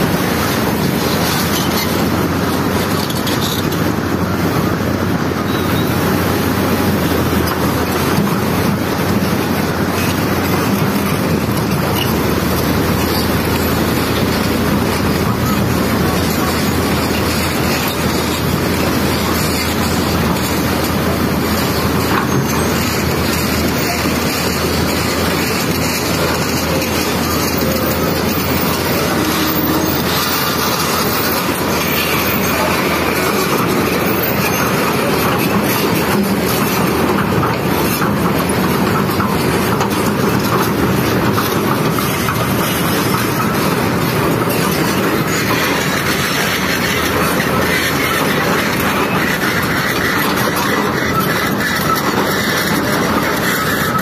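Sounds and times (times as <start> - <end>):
mudflow roaring: 0.0 - 54.0.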